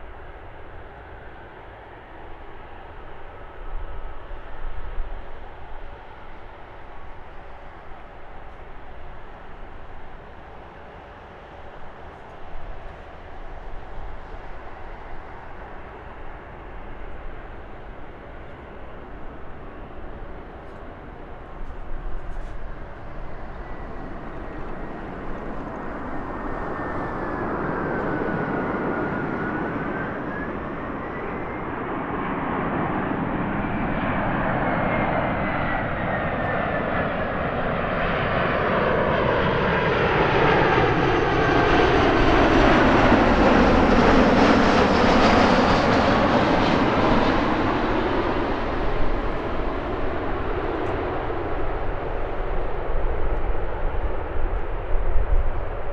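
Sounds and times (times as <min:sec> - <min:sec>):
airliner jet engines: 0:00.0 - 0:55.9.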